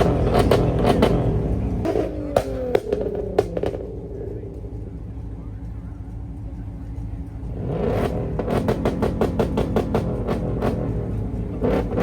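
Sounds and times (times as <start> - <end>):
car engine revving: 0.0 - 12.0
rapid exhaust pops and bangs: 0.0 - 12.0.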